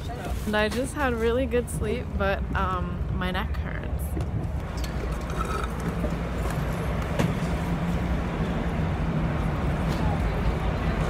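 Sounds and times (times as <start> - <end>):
bus engine rumble: 0.0 - 11.0.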